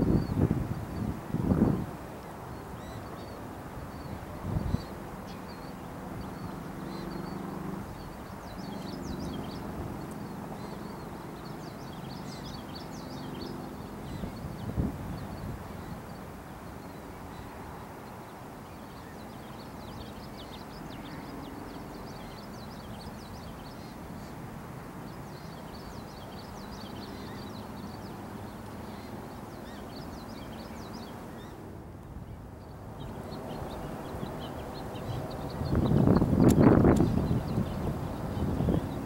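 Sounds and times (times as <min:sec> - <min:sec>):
birds chirping: 0:00.0 - 0:01.8, 0:02.5 - 0:39.0.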